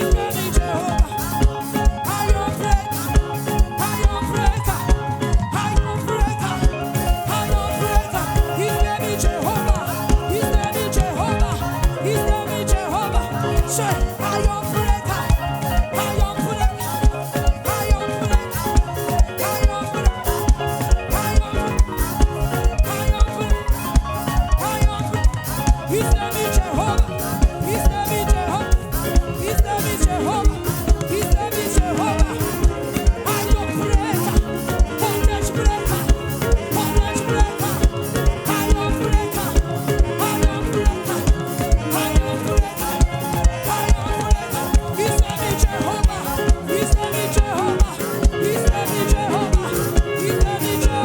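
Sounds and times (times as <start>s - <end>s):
driving drum beat: 0.0s - 51.0s
gospel band playing: 0.0s - 51.0s
keyboard: 0.0s - 51.0s.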